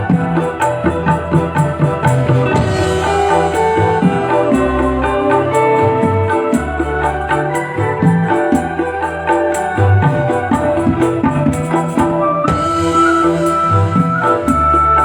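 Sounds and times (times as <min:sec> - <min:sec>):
bass line: 0:00.0 - 0:15.0
organ-like electronic keyboard: 0:00.0 - 0:15.0
steady percussion beat: 0:00.0 - 0:15.0.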